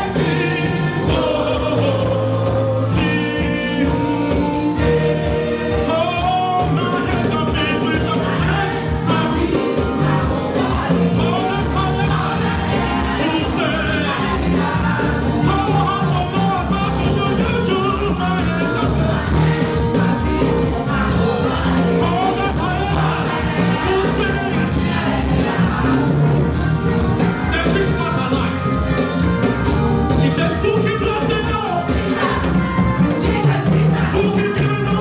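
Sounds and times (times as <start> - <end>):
live gospel band and singers: 0.0 - 35.0.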